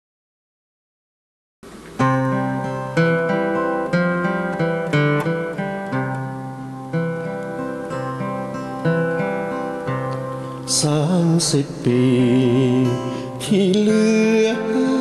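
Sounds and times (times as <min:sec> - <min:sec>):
acoustic guitar chords strummed: 0:01.6 - 0:15.0.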